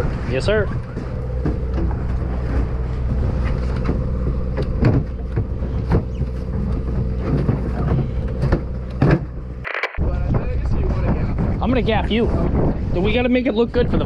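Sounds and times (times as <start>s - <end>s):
boat engine droning: 0.0s - 11.6s.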